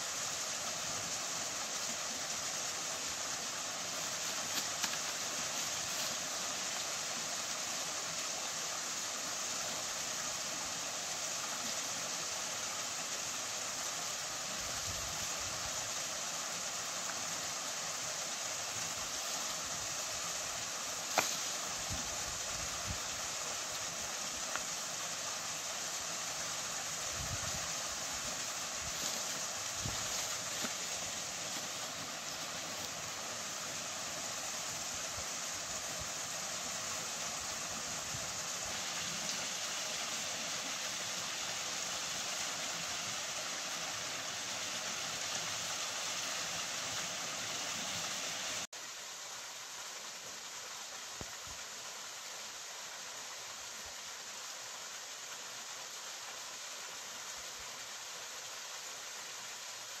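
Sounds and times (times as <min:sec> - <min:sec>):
waterfall pouring over rocks: 0:00.0 - 1:00.0.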